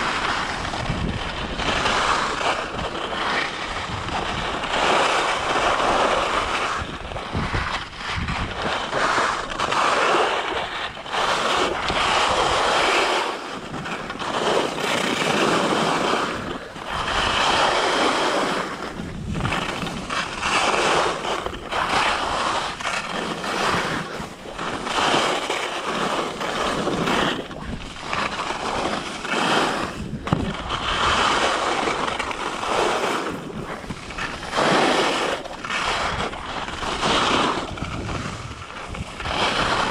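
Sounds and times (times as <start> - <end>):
skis scraping on snow: 0.0 - 39.9
wind buffeting microphone: 0.0 - 39.9.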